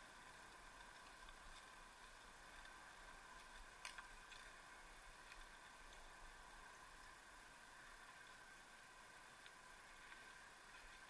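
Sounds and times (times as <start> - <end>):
faint clicks: 0.0 - 11.0
faint steady hiss: 0.0 - 11.0.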